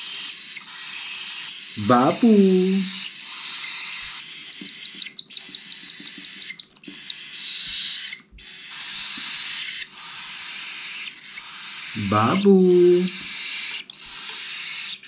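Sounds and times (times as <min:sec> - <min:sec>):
cockatiel chicks begging calls: 0:00.0 - 0:15.0.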